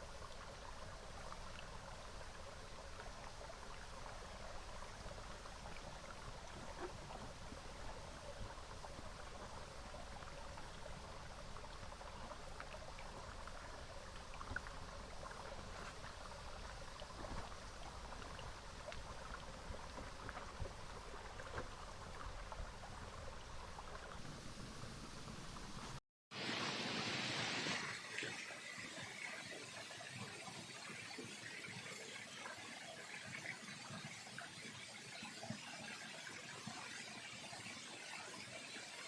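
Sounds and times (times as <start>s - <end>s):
river trickling over stones: 0.0s - 39.0s.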